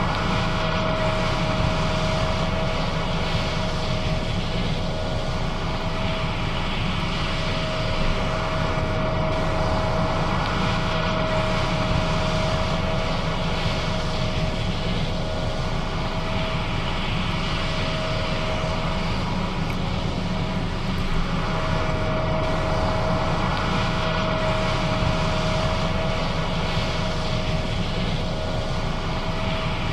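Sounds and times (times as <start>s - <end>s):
combine harvester engine drone: 0.0s - 29.9s
thin steady whine: 0.0s - 29.9s.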